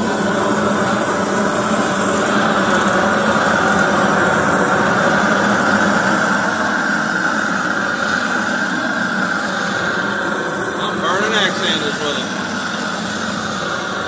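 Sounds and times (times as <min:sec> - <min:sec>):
gas torch flame hissing: 0:00.0 - 0:14.0.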